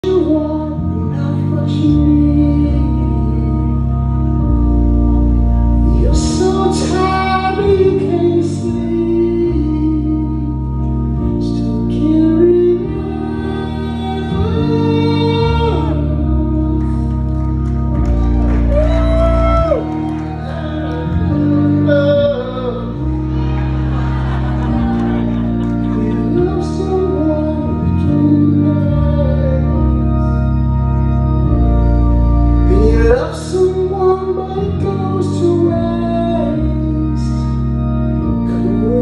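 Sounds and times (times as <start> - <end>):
person singing: 0.0 - 4.1, 5.8 - 17.6, 18.2 - 23.9, 24.7 - 30.4, 32.6 - 39.0
organ-like keyboard chords: 0.0 - 39.0.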